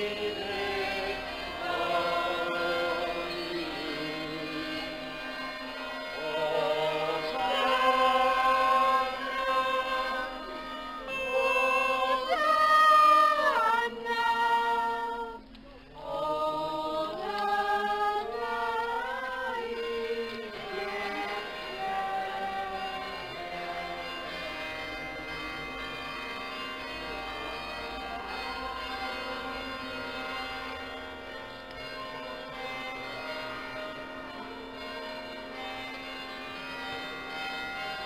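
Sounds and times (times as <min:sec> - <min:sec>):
group singing a hymn: 0:00.0 - 0:34.6.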